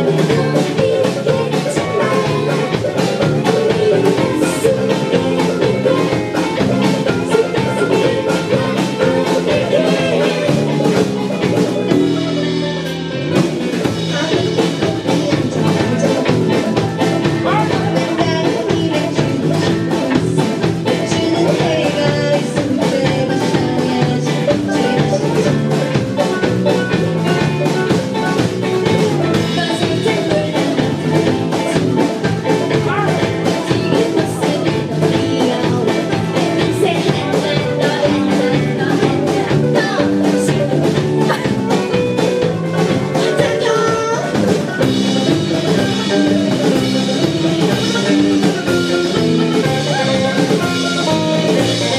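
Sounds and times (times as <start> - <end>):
drum kit beat: 0.0 - 51.9
live rock band playing: 0.0 - 51.9.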